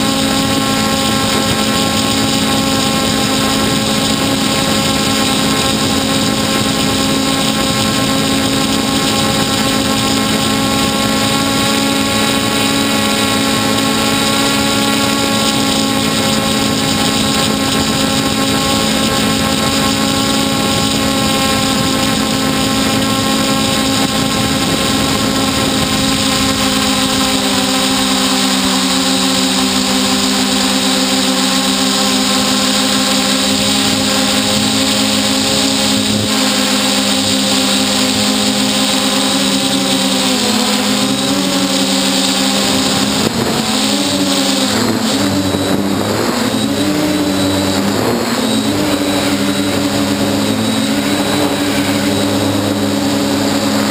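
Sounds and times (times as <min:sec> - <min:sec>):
drone motors whirring: 0:00.0 - 0:53.9.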